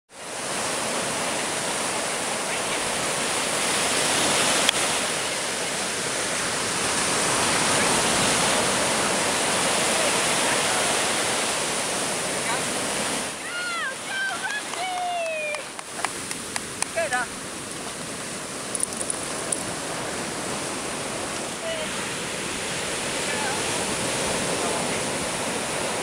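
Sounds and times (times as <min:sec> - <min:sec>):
surf washing through shallows: 0:00.1 - 0:26.0.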